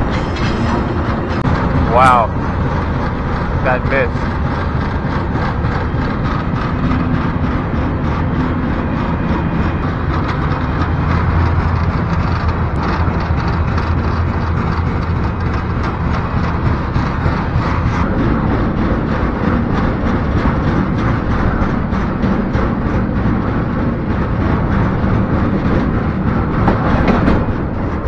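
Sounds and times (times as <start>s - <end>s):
freight train rumble and rattle: 0.0s - 28.0s.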